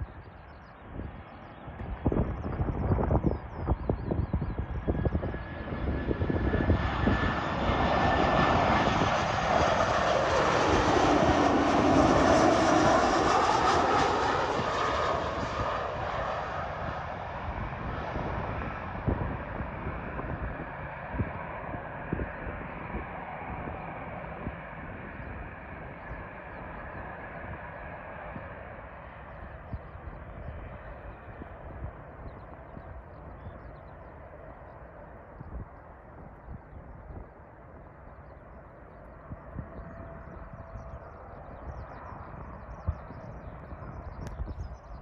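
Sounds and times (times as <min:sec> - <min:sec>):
airliner engines passing by: 0:00.0 - 0:45.0
wind buffeting microphone: 0:00.0 - 0:45.0.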